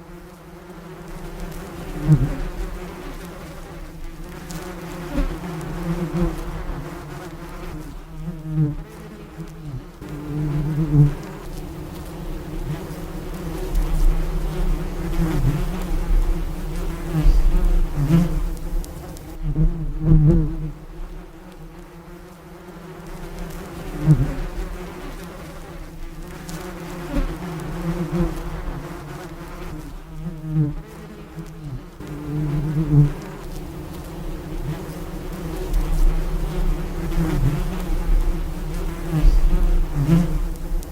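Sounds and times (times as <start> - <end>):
bee buzzing in flight: 0.0 - 40.9.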